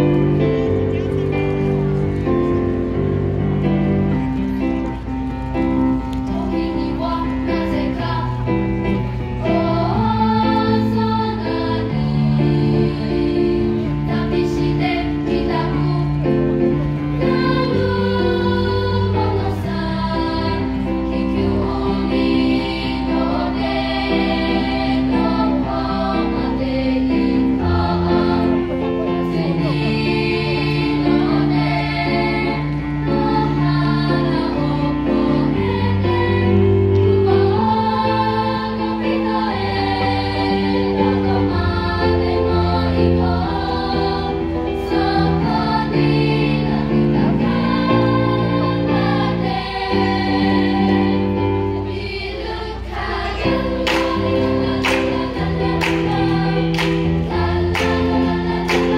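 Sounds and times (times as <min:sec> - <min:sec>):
children's choir singing: 0:00.0 - 0:58.9.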